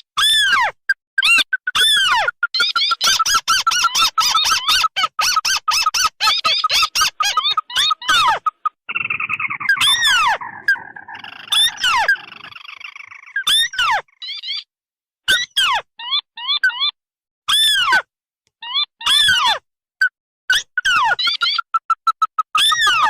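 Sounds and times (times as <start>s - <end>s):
recorded crake calls: 0.0s - 14.7s, 18.6s - 23.0s.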